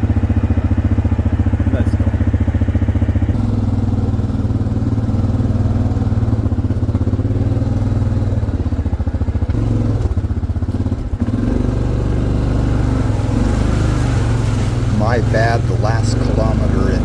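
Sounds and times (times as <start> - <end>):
atv engine rumbling: 0.0 - 17.0.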